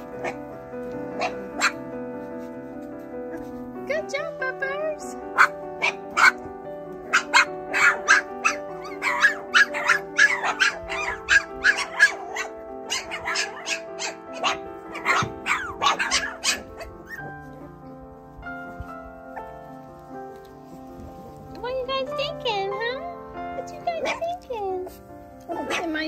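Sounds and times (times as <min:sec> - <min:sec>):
puppies yipping and barking: 0:00.0 - 0:03.7, 0:05.0 - 0:21.3, 0:23.6 - 0:26.0
background music: 0:00.0 - 0:26.0.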